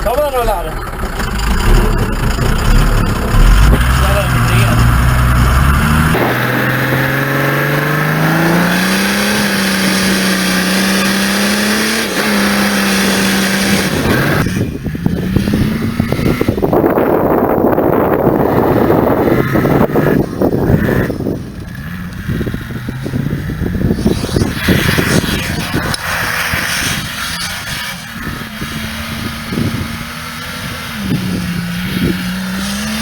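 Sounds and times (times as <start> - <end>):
diesel truck engine accelerating: 0.0 - 33.0.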